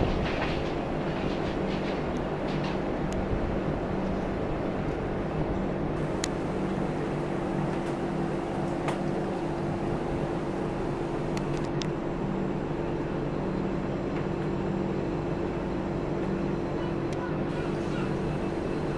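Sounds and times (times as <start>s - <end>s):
diesel train engine drone: 0.0s - 18.9s.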